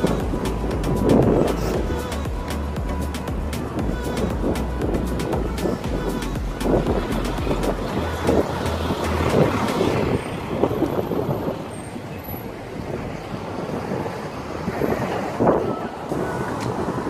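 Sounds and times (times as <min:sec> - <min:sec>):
street traffic passing: 0:00.0 - 0:17.0
wind buffeting microphone: 0:00.0 - 0:17.0.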